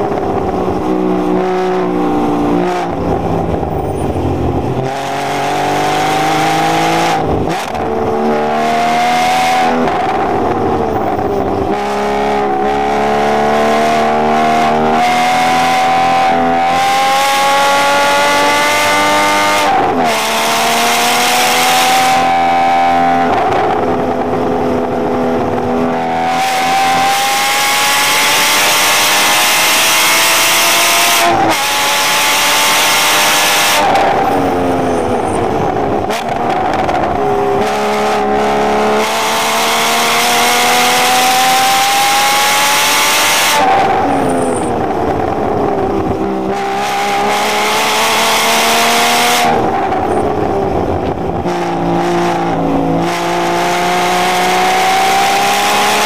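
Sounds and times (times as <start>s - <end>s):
sports car engine revving: 0.0s - 56.0s.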